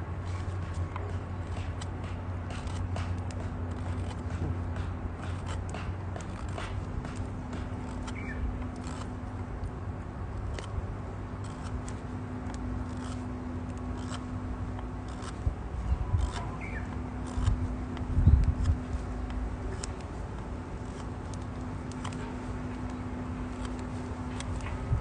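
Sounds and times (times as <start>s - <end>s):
low steady rumble: 0.0s - 25.0s.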